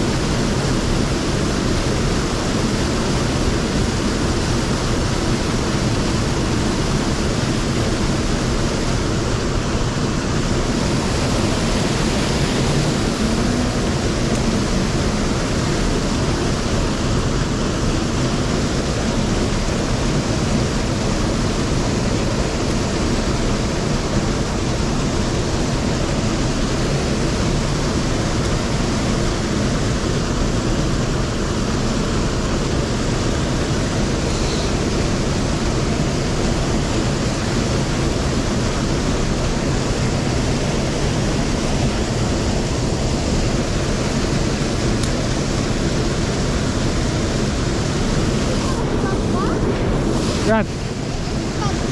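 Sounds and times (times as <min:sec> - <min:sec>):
stream water flowing over rocks: 0:00.0 - 0:51.9.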